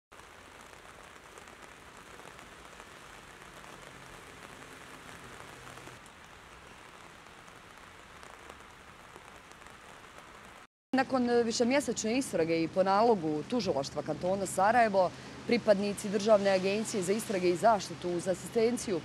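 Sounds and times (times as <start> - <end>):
rain on pavement: 0.1 - 10.7, 14.1 - 19.0.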